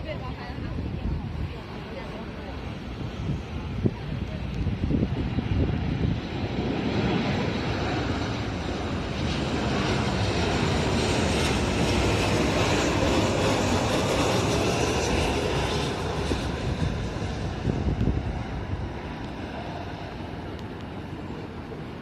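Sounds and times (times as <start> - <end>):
jet airliner engine roar: 0.0 - 22.0.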